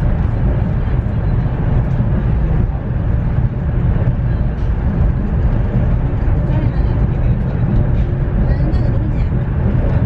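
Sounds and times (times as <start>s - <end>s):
train interior rumble and rushing: 0.0s - 10.0s.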